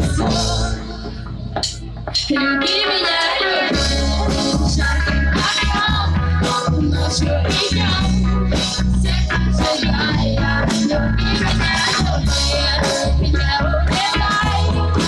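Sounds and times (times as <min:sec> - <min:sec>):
person singing: 0:00.0 - 0:01.3, 0:02.2 - 0:15.0
steady drum beat: 0:00.0 - 0:02.4, 0:03.7 - 0:15.0
electric guitar: 0:00.0 - 0:15.0
heavy bass: 0:00.0 - 0:15.0.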